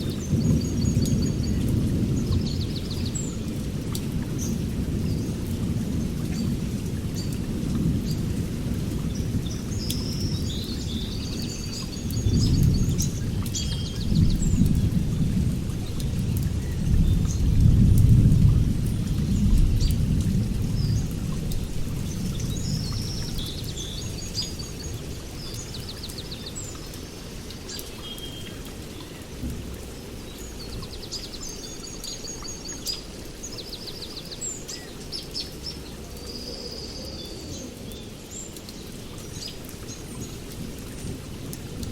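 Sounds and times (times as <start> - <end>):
songbirds singing trills: 0.0 - 17.8, 18.4 - 41.9.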